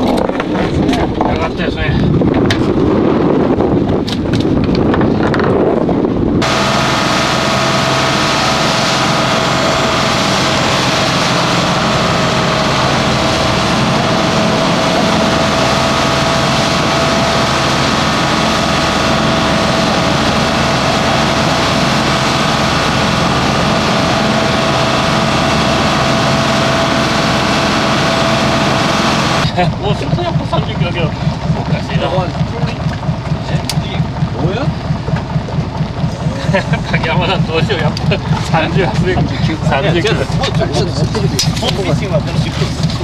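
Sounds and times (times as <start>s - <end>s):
boat engine drone: 0.0s - 43.0s.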